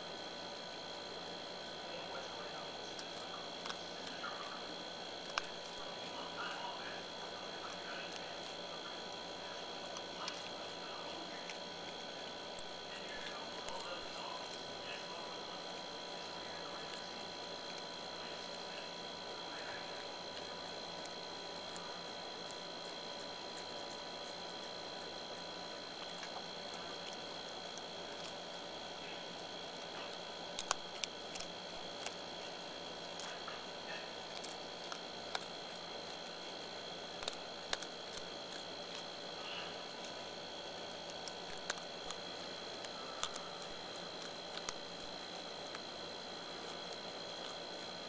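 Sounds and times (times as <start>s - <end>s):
raccoon crunching dry dog food: 0.0s - 48.0s.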